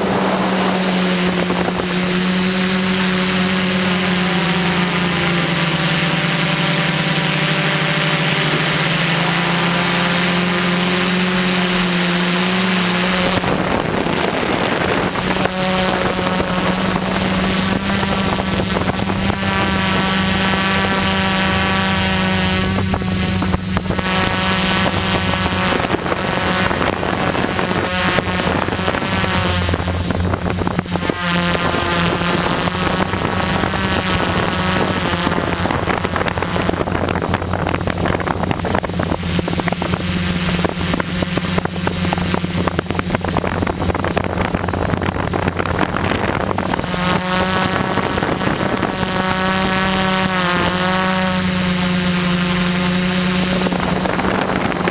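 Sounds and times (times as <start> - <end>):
dense rushing noise: 0.0 - 54.9
quadcopter motors humming: 0.0 - 54.9.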